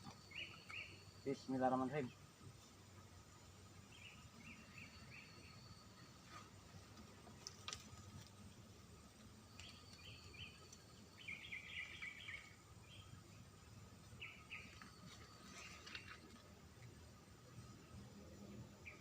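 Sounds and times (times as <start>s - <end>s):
faint steady high drone: 0.0s - 19.0s.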